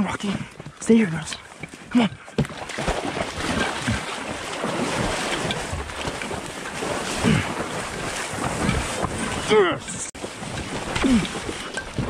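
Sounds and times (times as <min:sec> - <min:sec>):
water sloshing around legs: 0:00.0 - 0:12.0.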